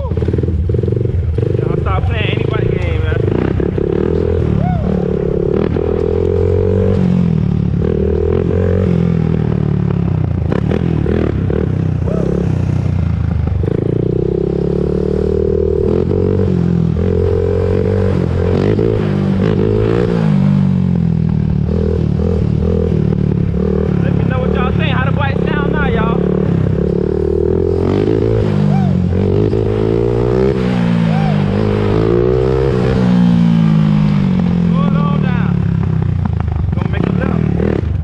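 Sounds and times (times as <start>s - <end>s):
quad engine revving: 0.0s - 38.0s.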